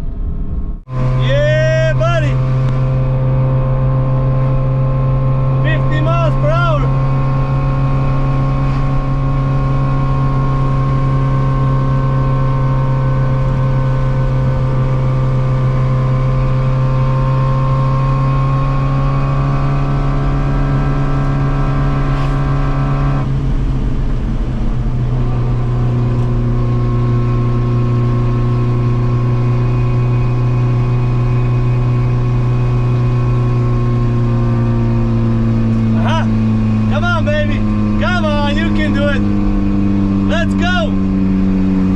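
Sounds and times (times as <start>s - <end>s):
car engine droning: 0.0s - 41.9s.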